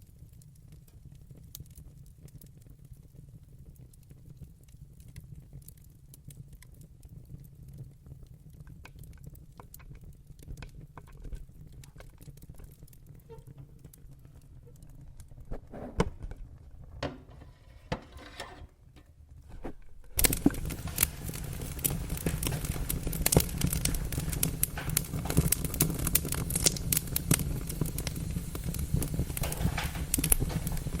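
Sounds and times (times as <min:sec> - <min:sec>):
wood fire crackling and popping: 0:00.1 - 0:31.0.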